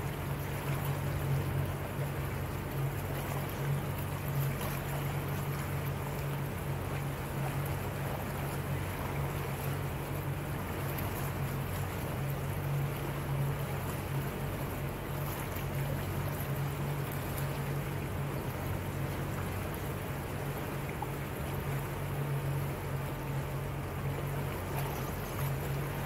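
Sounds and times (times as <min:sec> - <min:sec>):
motorboat engine humming: 0:00.0 - 0:26.0
water rushing along hull: 0:00.0 - 0:26.0.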